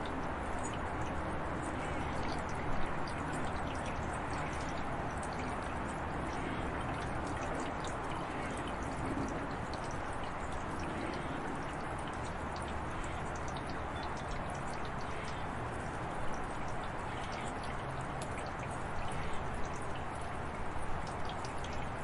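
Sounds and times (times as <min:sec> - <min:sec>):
water drips and splashes: 0:00.0 - 0:22.0.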